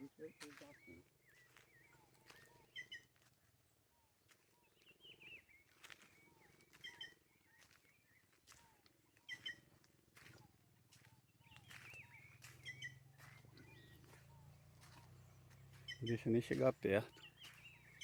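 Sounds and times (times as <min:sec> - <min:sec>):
faint birds chirping and whistling: 0:00.0 - 0:18.0.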